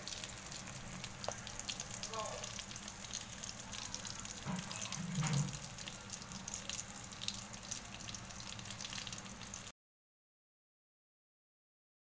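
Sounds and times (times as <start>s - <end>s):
fish frying in hot oil: 0.0s - 9.7s.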